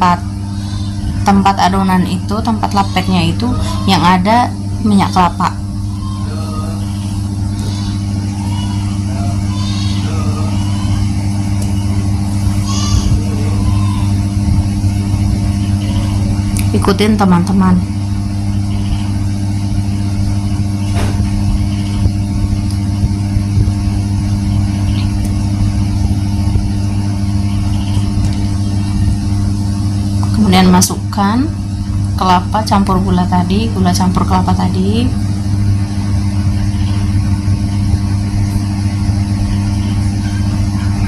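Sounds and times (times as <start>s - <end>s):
low motor-like hum: 0.0s - 41.0s.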